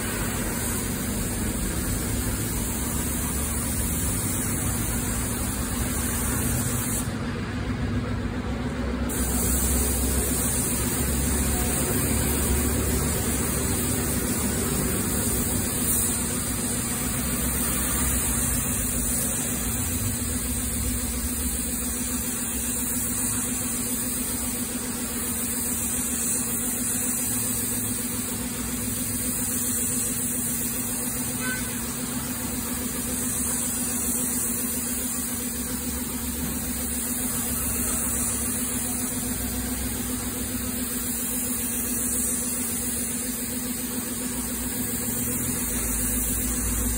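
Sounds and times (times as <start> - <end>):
spray gun hissing: 0.0 - 7.2, 9.1 - 46.9.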